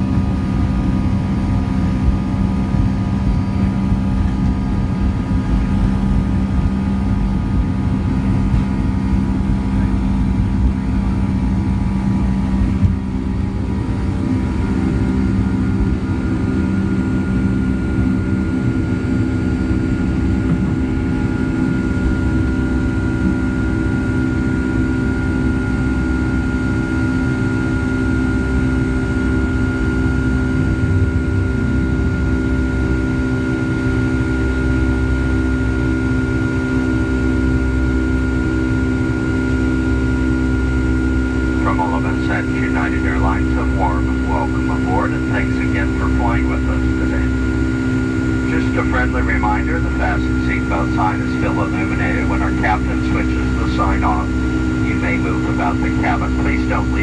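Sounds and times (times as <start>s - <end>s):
high steady engine whine: 0.0s - 57.0s
jet engine rumble in cabin: 0.0s - 57.0s.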